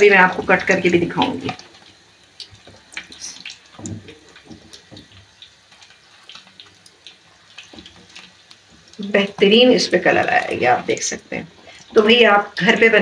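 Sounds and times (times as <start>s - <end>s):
oil sizzling with crackles and pops: 0.0s - 13.0s.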